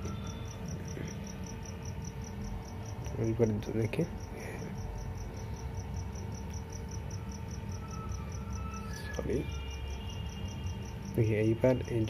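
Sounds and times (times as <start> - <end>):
cricket chirping: 0.0 - 12.0
low electrical hum: 0.0 - 12.0.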